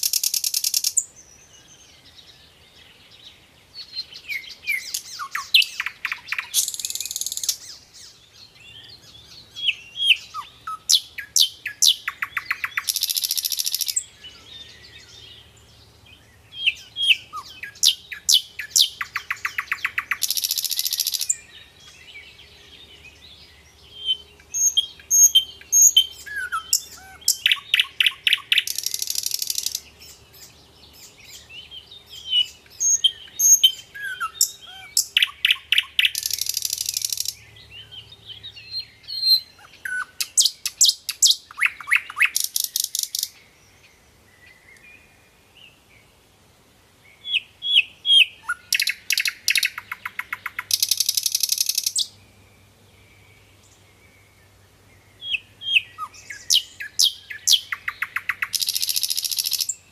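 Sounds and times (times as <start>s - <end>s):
birdsong chirps and trills: 0.0s - 59.9s.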